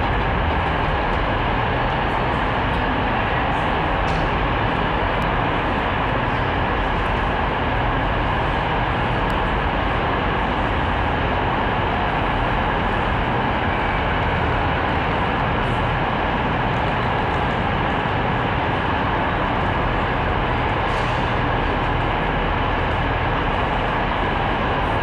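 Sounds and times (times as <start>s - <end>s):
train running: 0.0s - 25.0s.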